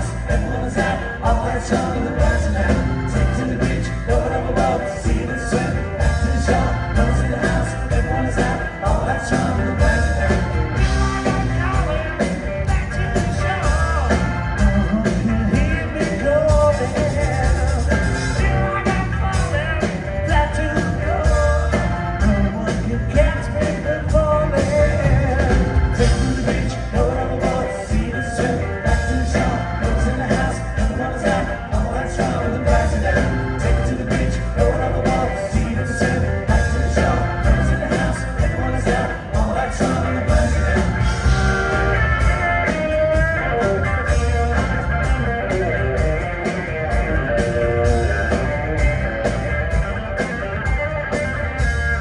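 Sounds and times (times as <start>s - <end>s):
bass guitar: 0.0s - 52.0s
drums steady beat: 0.0s - 52.0s
electric guitars: 0.0s - 52.0s.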